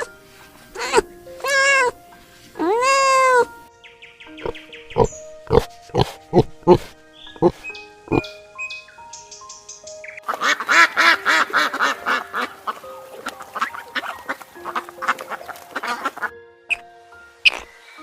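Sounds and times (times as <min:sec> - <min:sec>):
background music with held notes: 0:00.0 - 0:18.0.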